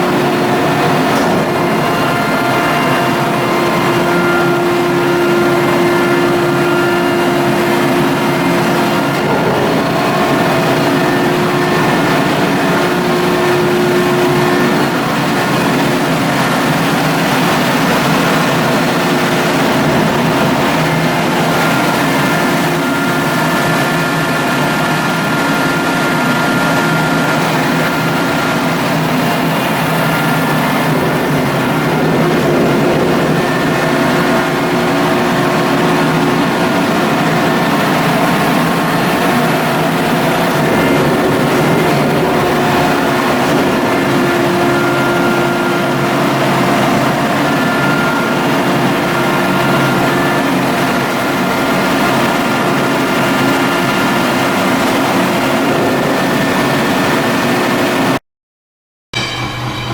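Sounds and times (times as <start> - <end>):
ship machinery droning: 0.0 - 58.2, 59.2 - 59.9
steady humming tones: 0.0 - 58.2, 59.2 - 59.9.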